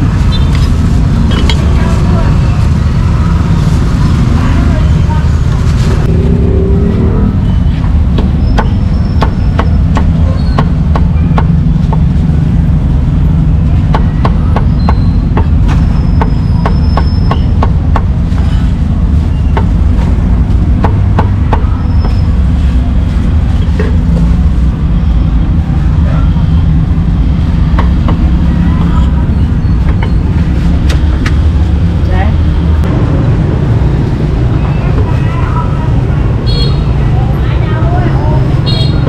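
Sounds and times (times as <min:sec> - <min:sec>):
loud low rumble: 0:00.8 - 0:16.2, 0:17.7 - 0:39.0.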